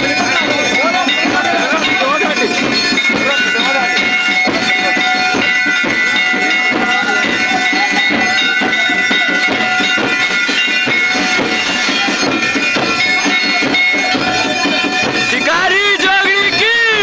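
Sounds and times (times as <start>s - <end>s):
crowd noise: 0.0s - 17.0s
percussive beats: 0.0s - 17.0s.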